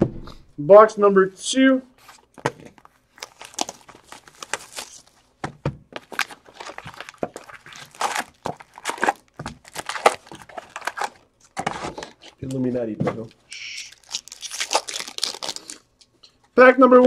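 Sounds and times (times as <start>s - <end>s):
plastic wrapping crinkling: 2.0s - 16.4s.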